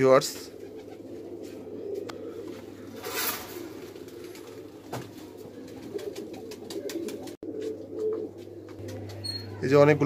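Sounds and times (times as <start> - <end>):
pigeons cooing: 0.0 - 9.6.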